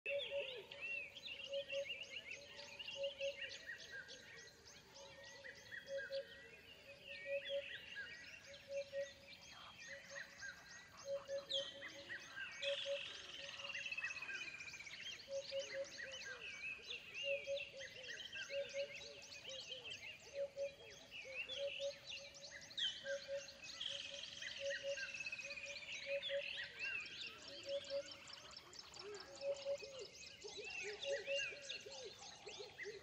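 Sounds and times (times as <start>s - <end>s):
birds chirping and calling: 0.1s - 33.0s.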